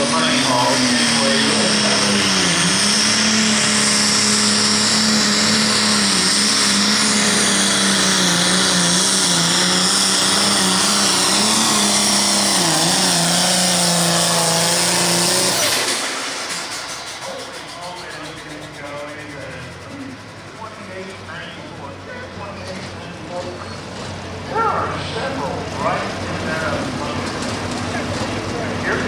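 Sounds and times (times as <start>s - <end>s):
diesel tractor engine under load: 0.0s - 29.0s.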